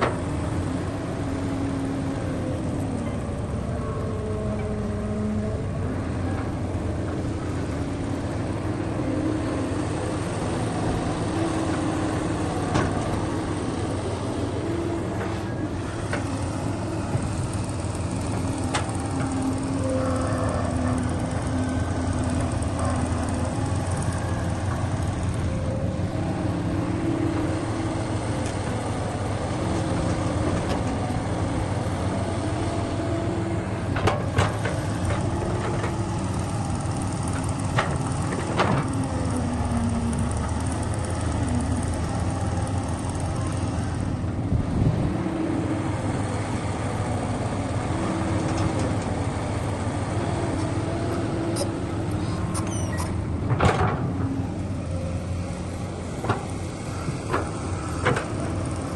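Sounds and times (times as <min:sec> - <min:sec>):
diesel machinery running: 0:00.0 - 0:58.9.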